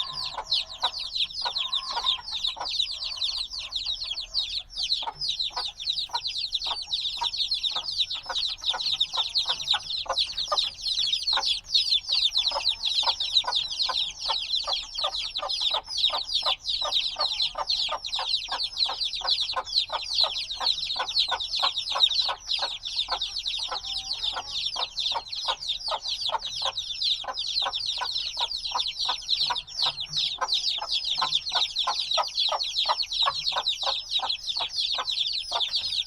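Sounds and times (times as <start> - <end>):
chicks peeping: 0.0 - 36.0.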